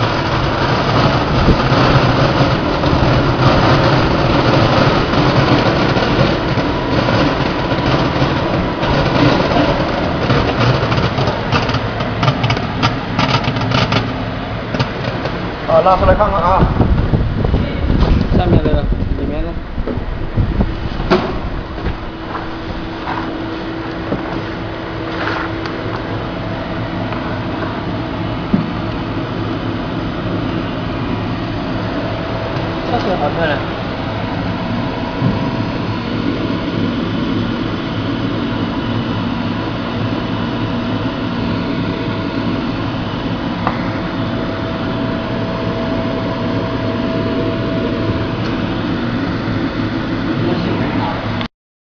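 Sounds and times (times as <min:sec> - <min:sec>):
sorting machine humming: 0:00.0 - 0:51.5.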